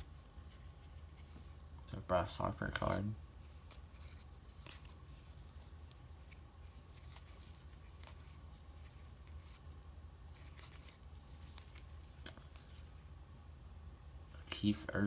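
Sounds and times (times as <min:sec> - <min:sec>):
trading cards rustling and clicking: 0:00.0 - 0:13.0
low steady hum: 0:00.0 - 0:15.0.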